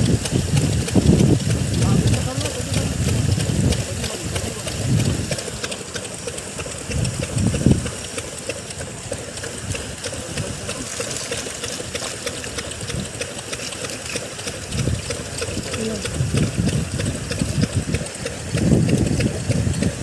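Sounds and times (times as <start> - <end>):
small engine ticking clatter: 0.0 - 20.0.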